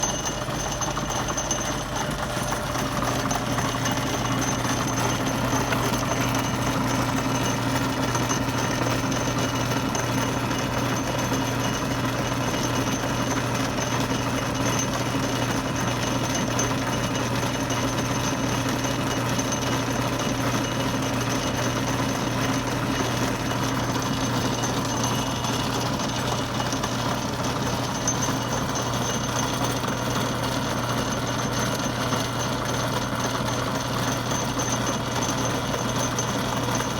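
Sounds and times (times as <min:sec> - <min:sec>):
lathe running: 0:00.0 - 0:36.9.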